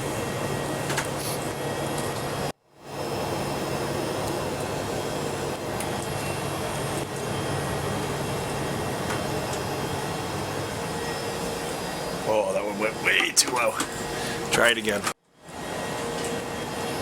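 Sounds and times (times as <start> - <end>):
ventilation fans humming: 0.0 - 17.0.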